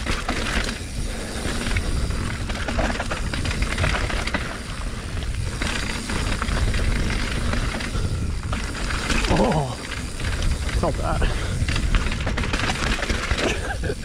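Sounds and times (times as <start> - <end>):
bike clattering and rattling: 0.0 - 14.0.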